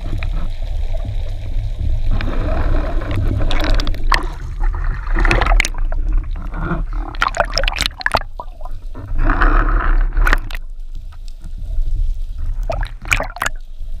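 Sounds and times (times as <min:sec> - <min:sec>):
sea water splashing: 0:00.0 - 0:10.7, 0:12.4 - 0:13.8
steady low rumble: 0:00.0 - 0:14.0
underwater gurgling: 0:00.0 - 0:14.0.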